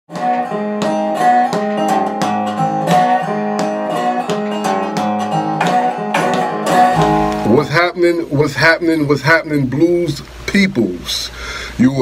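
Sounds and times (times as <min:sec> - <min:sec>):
acoustic guitar picking: 0:00.1 - 0:10.5.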